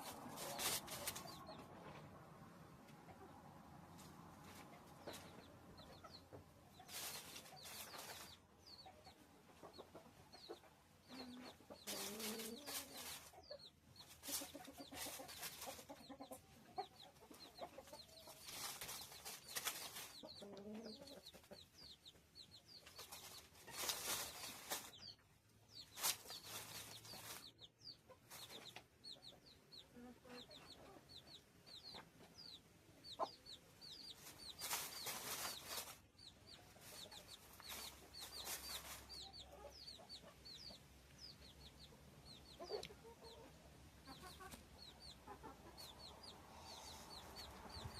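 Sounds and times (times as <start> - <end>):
chickens clucking softly: 0.0 - 47.9.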